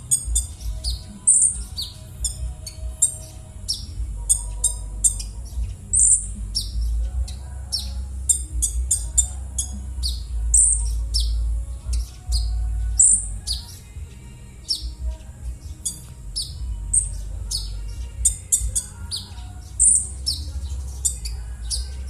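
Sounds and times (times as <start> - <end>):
bird giving harsh calls: 0.0 - 14.0, 14.6 - 22.0
steady low rumble: 0.0 - 22.0.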